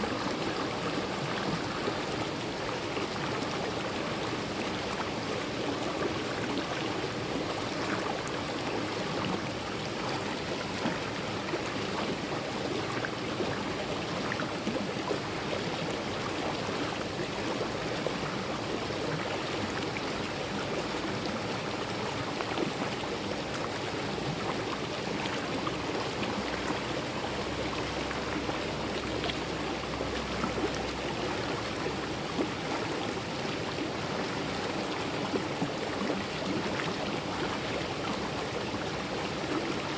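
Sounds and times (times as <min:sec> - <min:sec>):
stream flowing over rocks: 0:00.0 - 0:39.9
water splashes and gurgles: 0:00.0 - 0:39.9.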